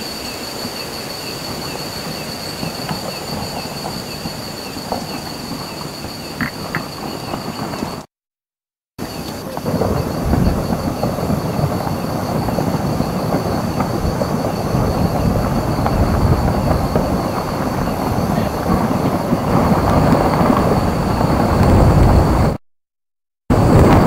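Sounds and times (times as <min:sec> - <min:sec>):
low rumbling of rock avalanche: 0:01.5 - 0:08.1, 0:09.0 - 0:22.6, 0:23.5 - 0:24.0.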